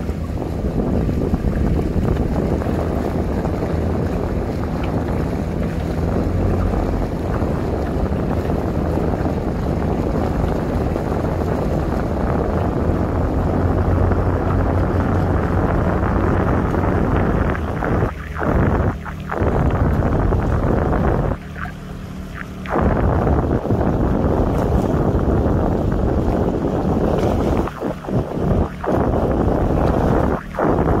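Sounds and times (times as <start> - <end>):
boat engine rumble: 0.0 - 31.0
water rushing past boat: 0.0 - 31.0
wind buffeting microphone: 0.0 - 31.0.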